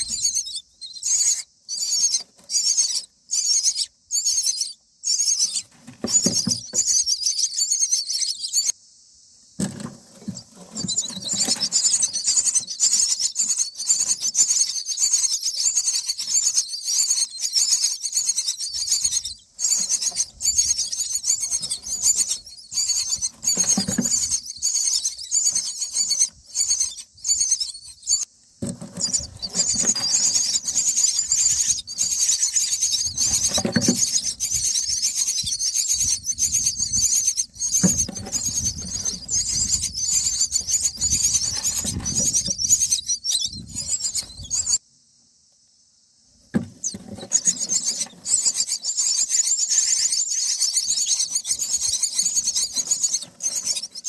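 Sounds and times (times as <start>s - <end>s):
chicks begging calls: 0.0s - 8.7s, 9.6s - 44.8s, 46.7s - 54.0s.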